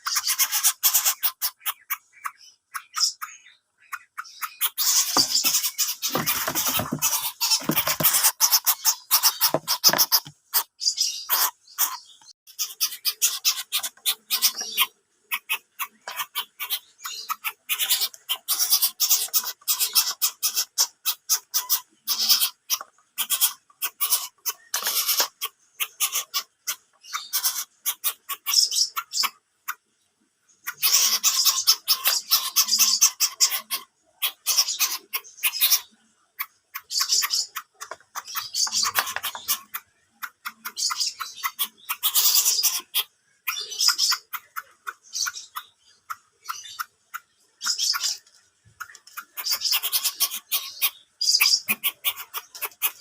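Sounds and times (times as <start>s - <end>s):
bird harsh clicking and rasping calls: 0.0s - 29.9s, 30.5s - 53.0s.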